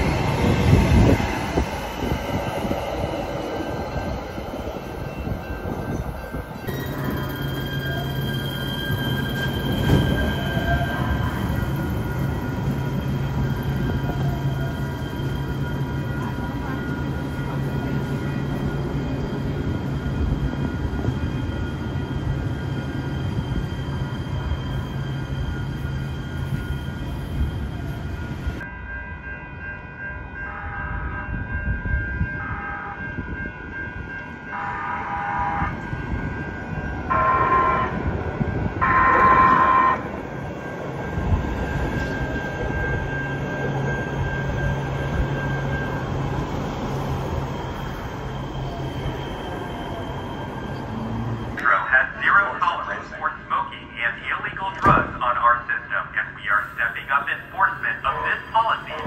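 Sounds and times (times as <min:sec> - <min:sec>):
railroad crossing bell: 0:00.0 - 0:54.6, 0:55.4 - 0:59.0
light rail train approaching: 0:00.0 - 0:59.0.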